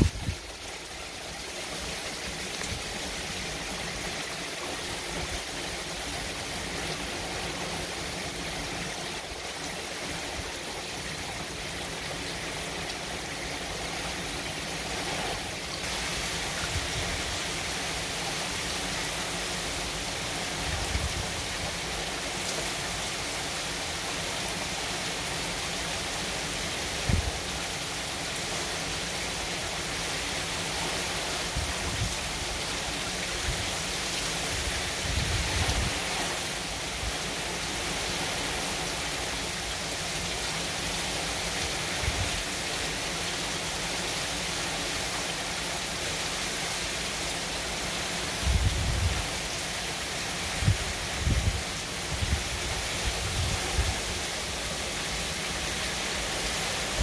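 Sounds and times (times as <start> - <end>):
wind-driven rain hissing: 0.0 - 57.0.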